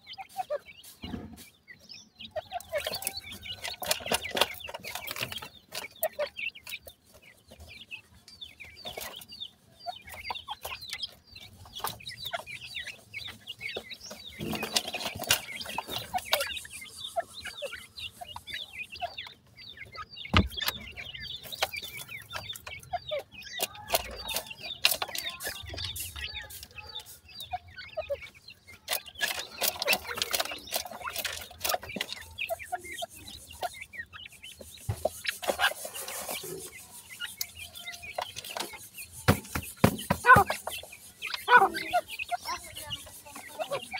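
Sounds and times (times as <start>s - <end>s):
birds pecking and scratching: 0.0s - 43.9s
young birds chirping: 0.0s - 43.9s.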